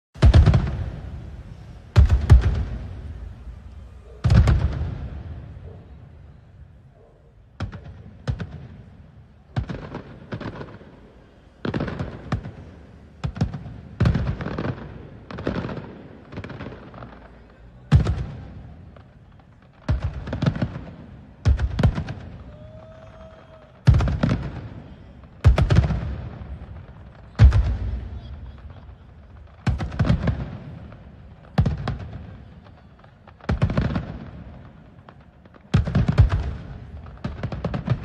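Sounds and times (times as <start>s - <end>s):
fireworks exploding: 0.2s - 38.0s.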